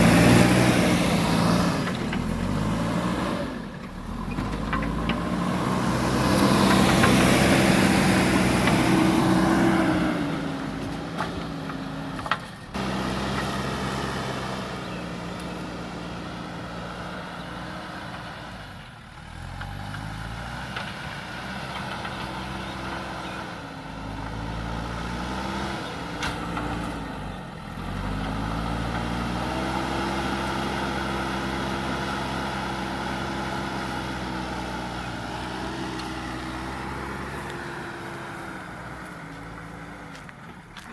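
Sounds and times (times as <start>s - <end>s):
heavy diesel engine working: 0.0s - 40.9s.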